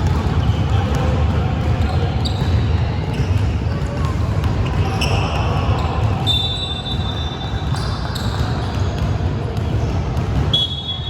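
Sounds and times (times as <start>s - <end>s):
basketball bouncing: 0.0s - 11.0s.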